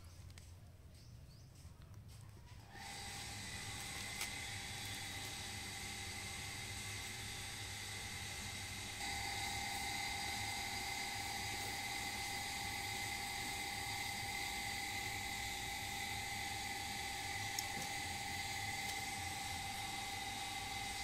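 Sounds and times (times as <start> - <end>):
high whine: 2.8 - 21.0.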